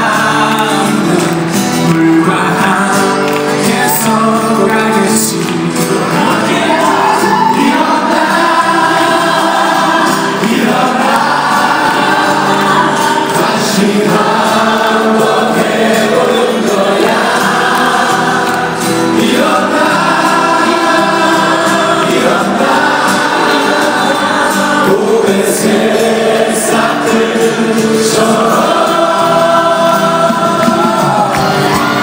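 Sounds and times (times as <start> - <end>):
live pop band: 0.0 - 32.0
men singing together: 0.0 - 32.0.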